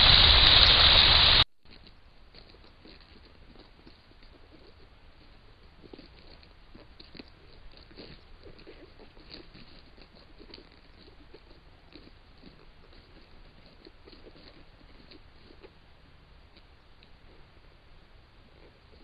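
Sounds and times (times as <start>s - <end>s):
claws scratching bark and wood: 2.4s - 17.6s.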